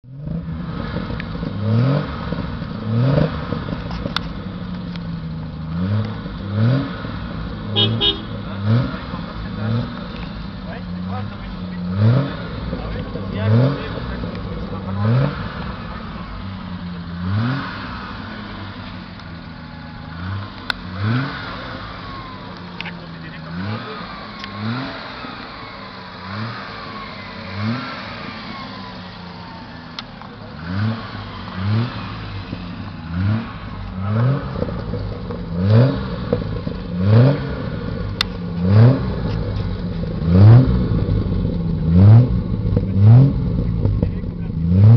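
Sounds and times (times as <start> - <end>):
car engine idling with throttle blips: 0.0 - 44.9.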